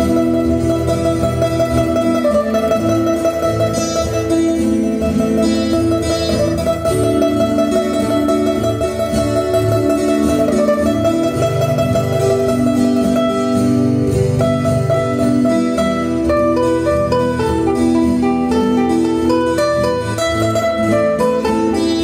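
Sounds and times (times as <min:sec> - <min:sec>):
plucked guitar melody: 0:00.0 - 0:22.0.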